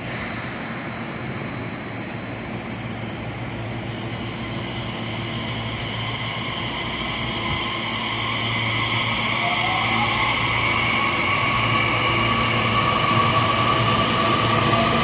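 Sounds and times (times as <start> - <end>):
electric train hum and rumble: 0.0 - 15.0.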